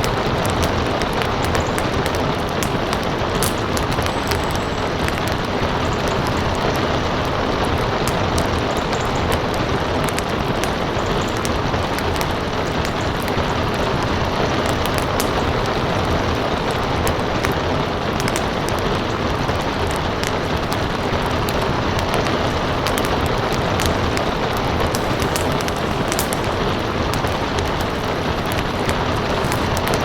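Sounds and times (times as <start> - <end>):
fire pops: 0.0 - 30.0
rain hiss: 0.0 - 30.0
wood fire crackling: 0.0 - 30.0.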